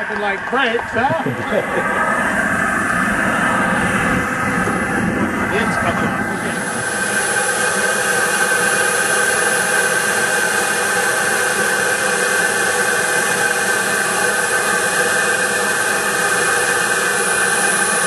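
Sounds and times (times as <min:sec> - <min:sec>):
jet turbine running: 0:00.0 - 0:18.0.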